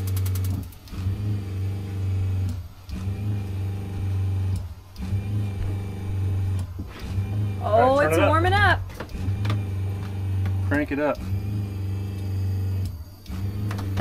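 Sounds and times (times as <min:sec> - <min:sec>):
small electric motor humming: 0:00.0 - 0:14.0.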